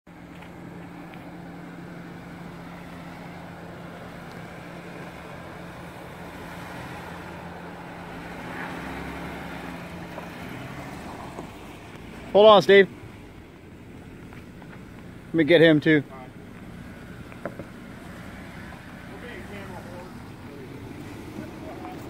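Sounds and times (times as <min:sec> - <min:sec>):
car engine running at low revs: 0:00.1 - 0:22.0.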